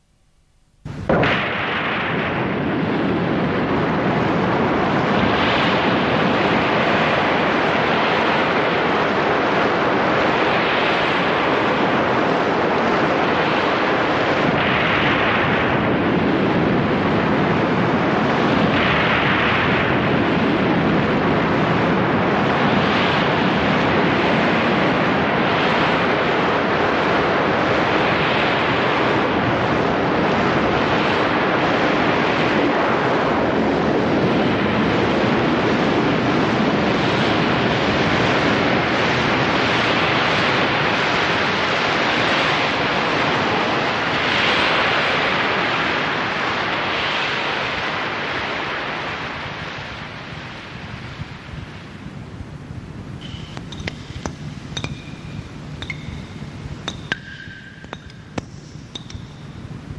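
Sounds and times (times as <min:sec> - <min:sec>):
surf-like rushing noise: 0:01.1 - 0:50.9.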